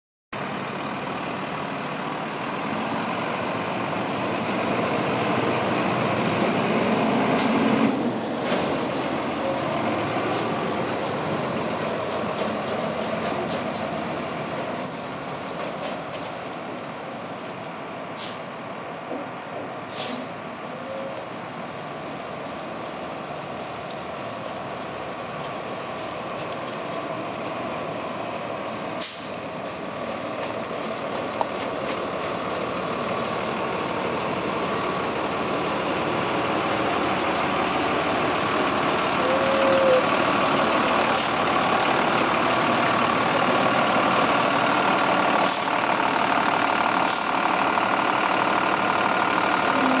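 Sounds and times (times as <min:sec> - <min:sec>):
truck diesel engine running: 0:00.4 - 0:50.0.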